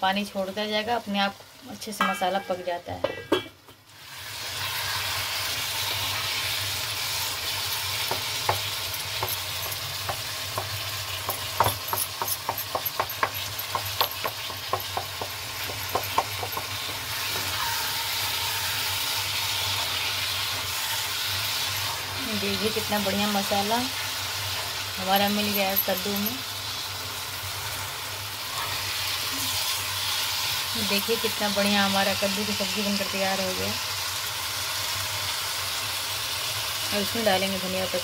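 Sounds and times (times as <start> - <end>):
food sizzling in pan: 0.0 - 38.0.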